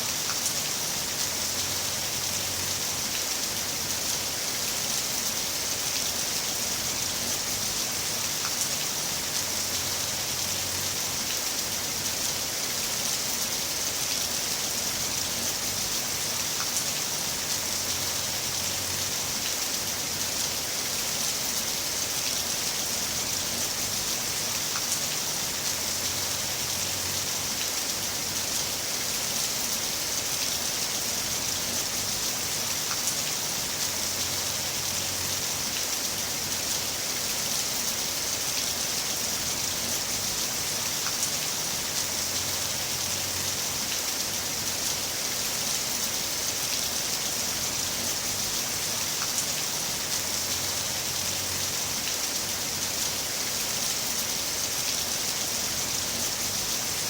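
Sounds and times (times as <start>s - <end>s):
heavy rain hissing: 0.0s - 57.0s
rain drops ticking: 0.0s - 57.0s.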